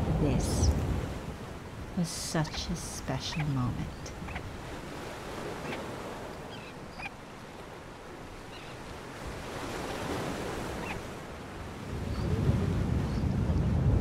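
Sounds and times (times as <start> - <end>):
surf washing: 0.0 - 14.0
wind: 0.0 - 14.0.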